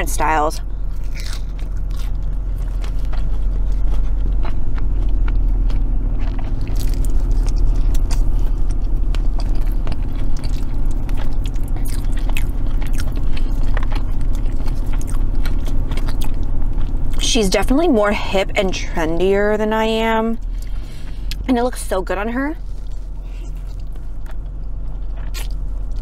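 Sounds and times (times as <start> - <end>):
car engine idling: 0.0 - 26.0
chewing crunchy food: 0.2 - 17.8, 19.0 - 21.5, 22.6 - 26.0.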